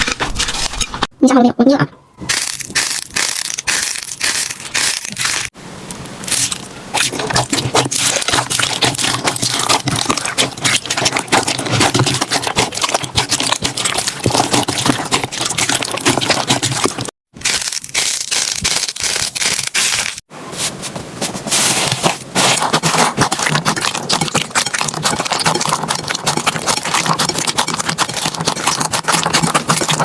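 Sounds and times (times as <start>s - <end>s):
slime crackling and crunching: 2.3s - 5.5s, 6.3s - 20.2s, 21.5s - 30.0s.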